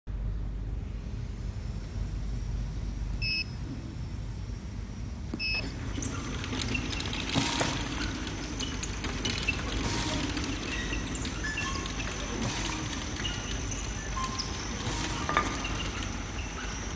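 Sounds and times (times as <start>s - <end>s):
conveyor mechanical drone: 0.1s - 16.9s.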